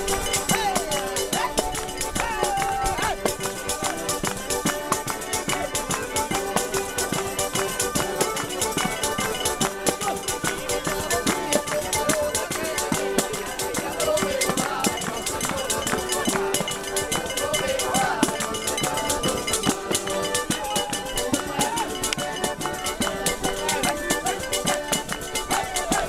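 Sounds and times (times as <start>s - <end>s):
bagpipe playing: 0.0s - 26.0s
button accordion playing: 0.0s - 26.0s
tambourine jingling beat: 0.0s - 26.0s.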